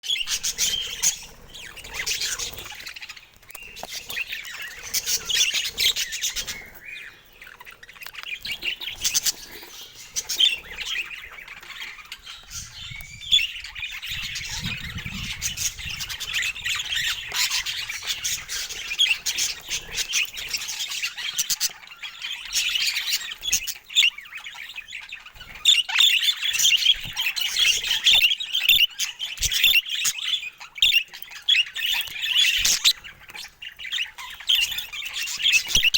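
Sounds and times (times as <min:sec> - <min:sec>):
budgerigars chirping and chattering: 0:00.0 - 0:35.9.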